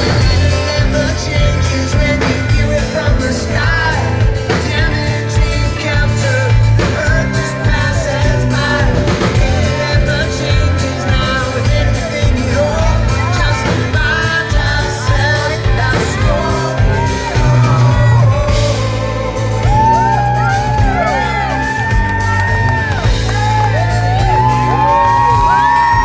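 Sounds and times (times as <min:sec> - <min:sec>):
lead singer: 0:00.0 - 0:26.0
live rock band playing: 0:00.0 - 0:26.0.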